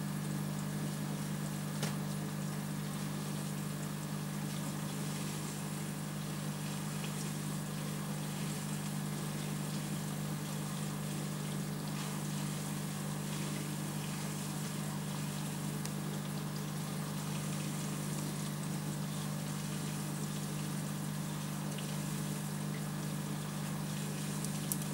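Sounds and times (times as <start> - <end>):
aquarium pump humming: 0.0 - 24.9.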